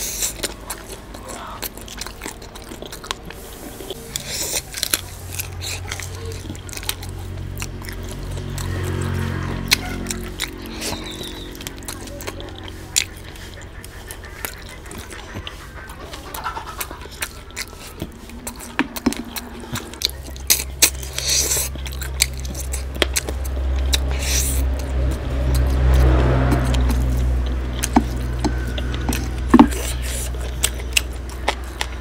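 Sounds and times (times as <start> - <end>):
lip smacks: 0.0 - 32.0
low steady hum: 0.0 - 32.0
wet chewing: 0.0 - 32.0.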